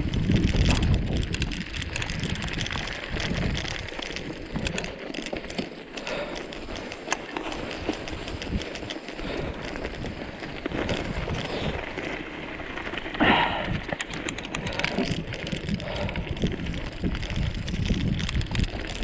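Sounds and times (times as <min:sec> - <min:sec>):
footsteps crunching on trail: 0:00.1 - 0:19.0.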